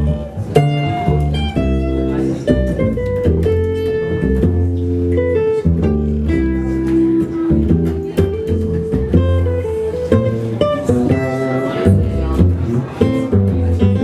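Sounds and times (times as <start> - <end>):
acoustic guitar picking: 0.0 - 14.0
upright bass: 0.0 - 14.0.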